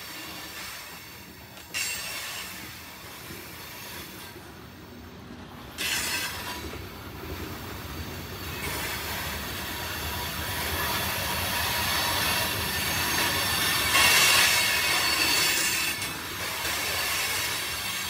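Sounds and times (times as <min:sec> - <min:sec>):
steel wheels squealing: 0:00.0 - 0:04.3, 0:05.7 - 0:06.8, 0:07.9 - 0:18.0
freight train cars rolling: 0:00.0 - 0:18.0.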